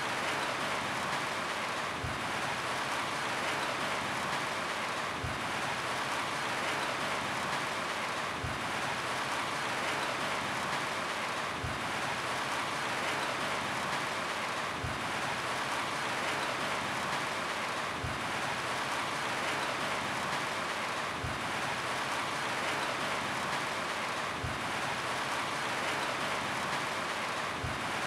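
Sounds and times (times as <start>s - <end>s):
rain falling on a roof: 0.0s - 28.0s.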